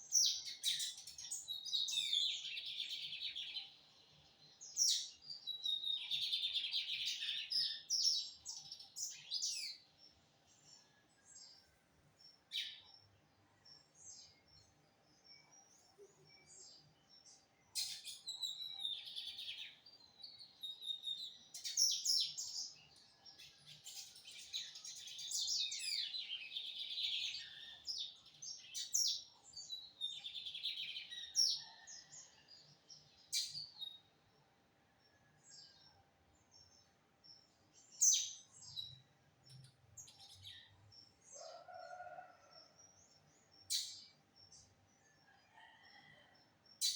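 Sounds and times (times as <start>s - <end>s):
bird singing chirps and trills: 0.0s - 34.6s, 35.2s - 46.0s, 46.7s - 46.9s.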